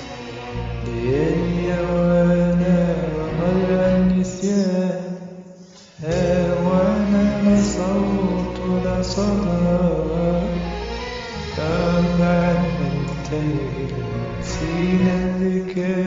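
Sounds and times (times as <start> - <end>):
man singing a slow ballad: 0.8 - 10.7, 11.6 - 16.0.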